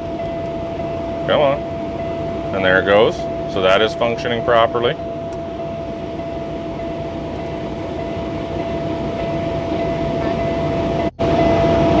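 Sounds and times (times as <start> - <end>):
constant whine: 0.0 - 12.0
diesel engine idling: 0.0 - 12.0.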